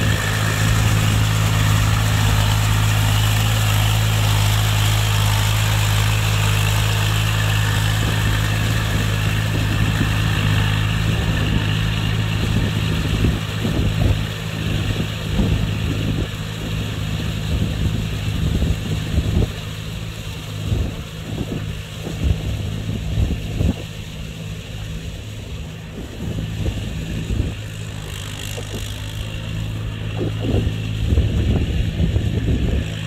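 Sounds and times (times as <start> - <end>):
tractor engine running: 0.0 - 33.0
wind buffeting microphone: 0.0 - 33.0.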